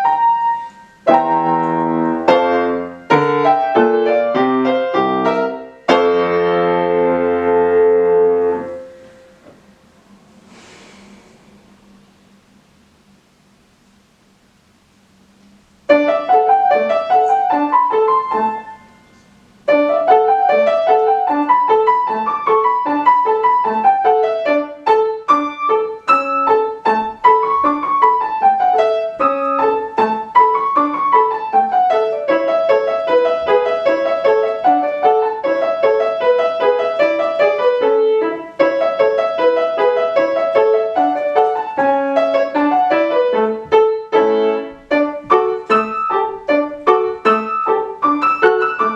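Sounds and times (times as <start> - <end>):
piano playing: 0.0 - 10.6, 15.8 - 48.9.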